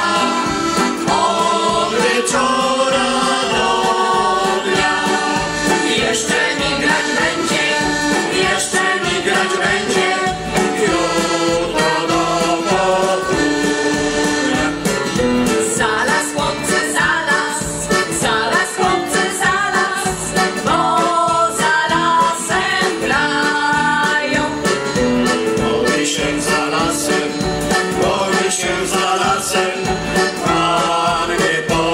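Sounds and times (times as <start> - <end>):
mixed choir singing folk song: 0.0 - 31.9
piano accordion: 0.0 - 31.9.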